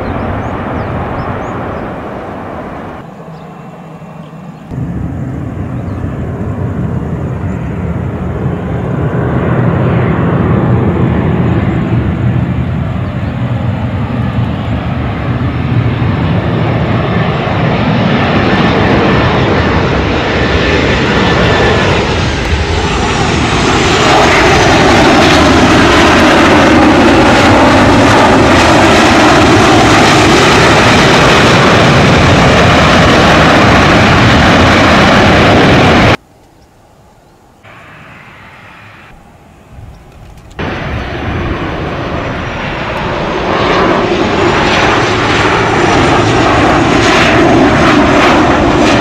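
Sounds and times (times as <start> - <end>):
jet engine roaring: 0.0 - 36.2, 37.6 - 49.0
falling jet engine whine: 0.0 - 49.0.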